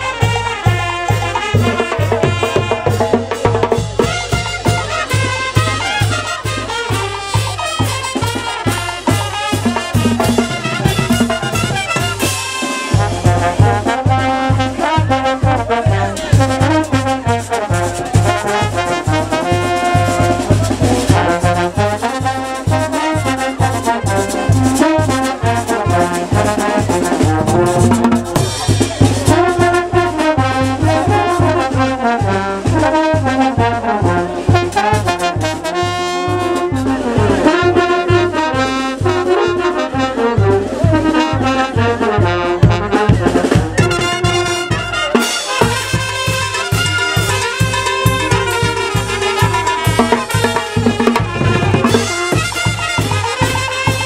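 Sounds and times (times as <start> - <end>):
bass drum beat: 0.0 - 54.0
congas: 0.0 - 54.0
trumpets: 0.0 - 54.0
tubas: 0.0 - 54.0.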